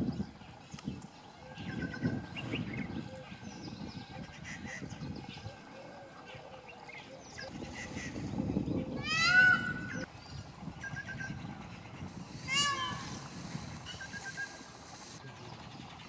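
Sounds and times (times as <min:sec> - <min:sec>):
small birds chirping: 0:00.0 - 0:16.0
wind rumbling on microphone: 0:00.0 - 0:16.0.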